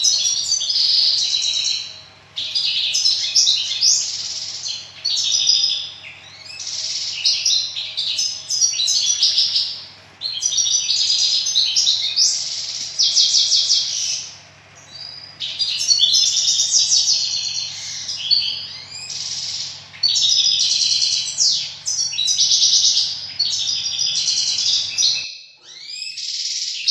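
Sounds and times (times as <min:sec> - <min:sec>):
small birds chirping and twittering: 0:00.0 - 0:26.9.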